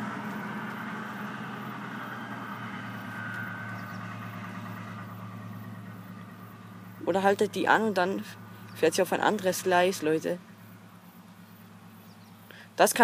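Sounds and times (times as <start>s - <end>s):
locomotive engine humming: 0.0s - 13.0s.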